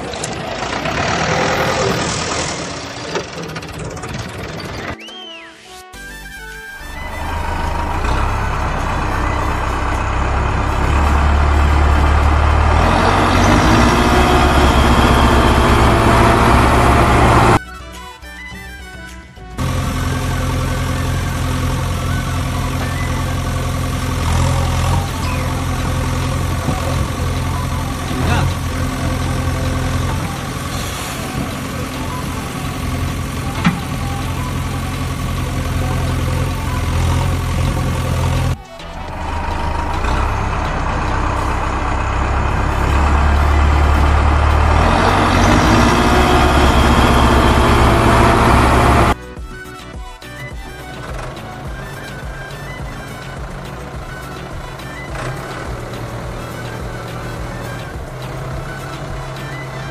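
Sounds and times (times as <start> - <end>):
engine idling: 0.0 - 5.0, 6.8 - 17.6, 19.6 - 49.2, 50.6 - 59.9.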